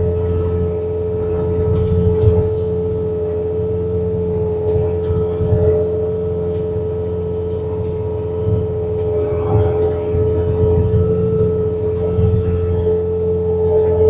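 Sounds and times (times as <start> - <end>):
high hydraulic whine: 0.0 - 14.0
loader diesel engine running: 0.0 - 14.0.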